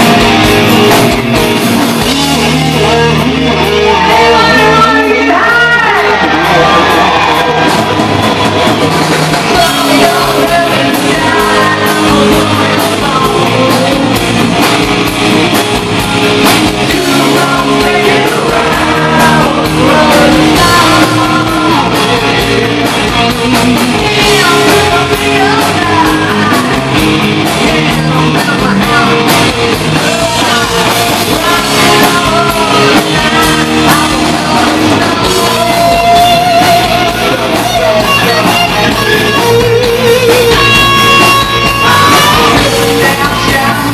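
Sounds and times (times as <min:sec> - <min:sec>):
hard rock band playing: 0:00.0 - 0:43.9
male singer belting: 0:02.0 - 0:08.0, 0:09.4 - 0:15.1, 0:16.6 - 0:43.9.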